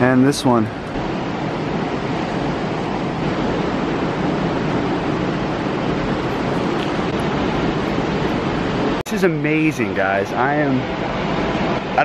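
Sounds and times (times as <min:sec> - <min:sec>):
ocean surf rushing: 0:00.0 - 0:12.0
wind: 0:00.0 - 0:12.0.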